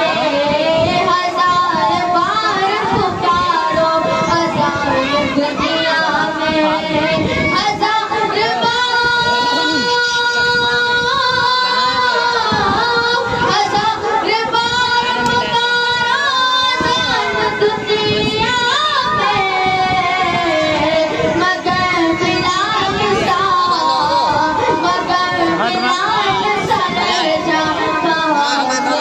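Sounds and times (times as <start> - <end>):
boy singing into a microphone: 0.0 - 29.0.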